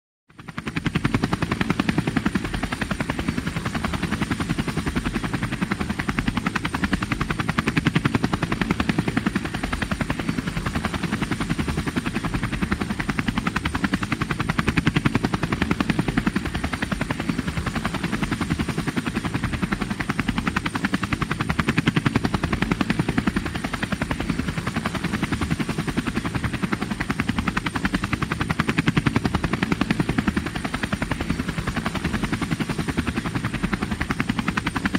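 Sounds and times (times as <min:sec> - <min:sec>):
helicopter rotor blades chopping: 0:00.3 - 0:34.9.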